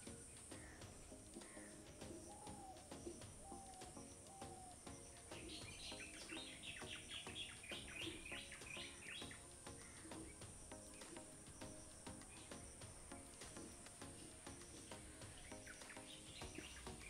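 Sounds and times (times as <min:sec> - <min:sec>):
faint bird chirping: 0:00.0 - 0:17.0.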